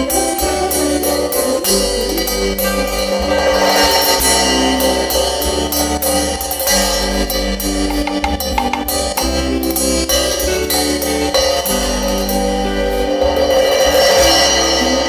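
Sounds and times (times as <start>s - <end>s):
bass line: 0.0s - 15.0s
cymbal strokes: 0.0s - 15.0s
keyboard melody: 0.0s - 15.0s.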